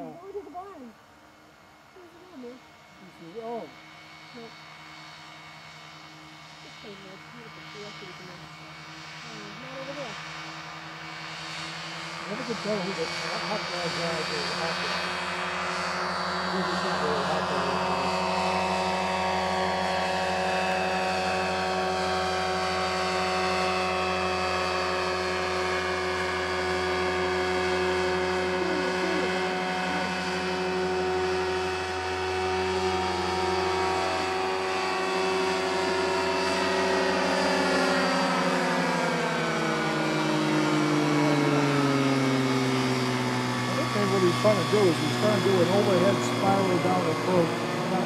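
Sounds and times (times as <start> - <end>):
propeller engine droning buzz: 0.0 - 48.0.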